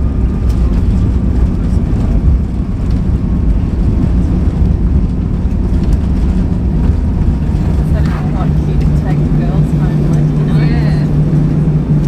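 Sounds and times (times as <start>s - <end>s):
deep rumble of engines and landing gear: 0.0s - 12.0s.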